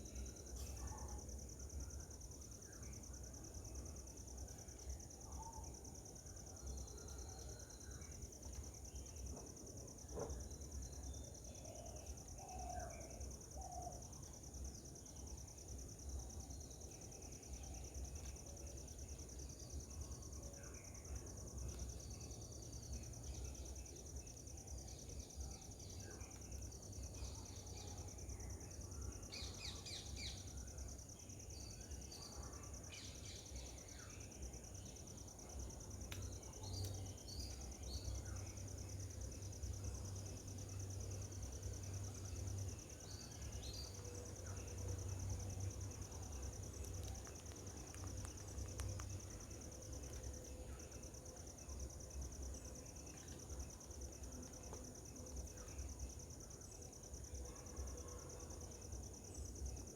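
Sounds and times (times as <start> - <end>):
high drone of insects: 0.0 - 59.9.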